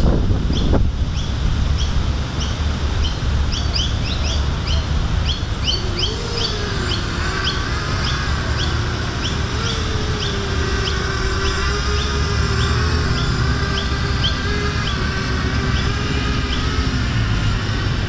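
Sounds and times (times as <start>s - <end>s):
quadcopter motors whining: 0.0s - 18.0s
wind rumble on microphone: 0.0s - 18.0s
bird chirping: 0.5s - 17.8s.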